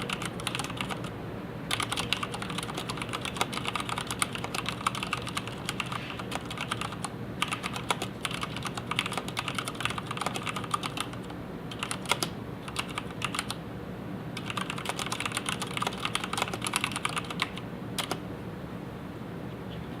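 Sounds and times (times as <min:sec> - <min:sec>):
mechanical keyboard typing: 0:00.0 - 0:01.1, 0:01.7 - 0:13.6, 0:14.4 - 0:18.2.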